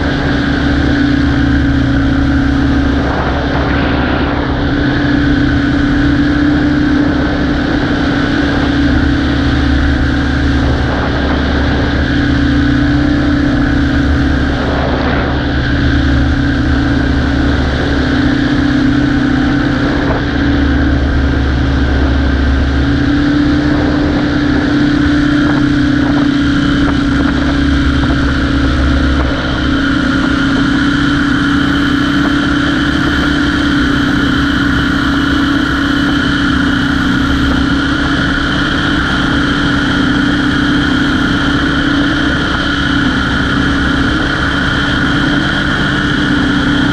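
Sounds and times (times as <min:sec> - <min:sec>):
propeller aircraft engine drone: 0:00.0 - 0:46.9.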